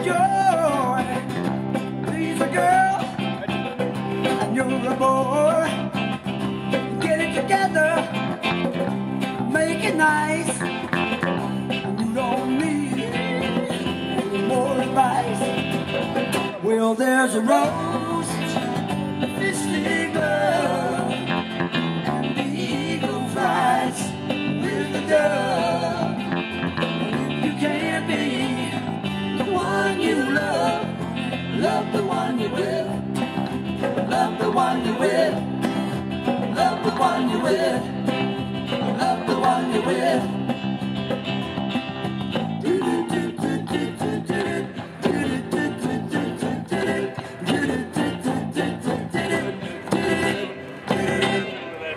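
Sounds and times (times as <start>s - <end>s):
country-rock band playing: 0.0s - 51.9s.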